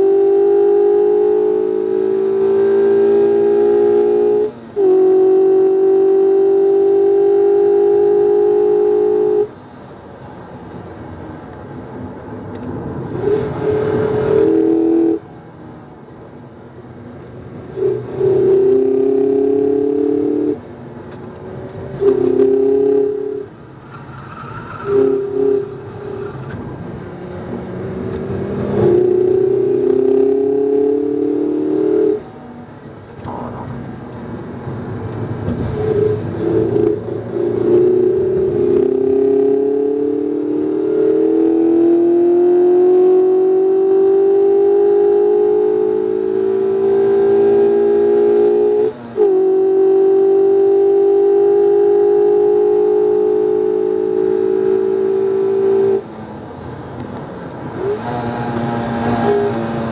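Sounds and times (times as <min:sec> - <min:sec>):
car engine revving under throttle: 0:00.0 - 0:09.6, 0:12.6 - 0:15.4, 0:17.6 - 0:24.2, 0:24.8 - 0:59.9.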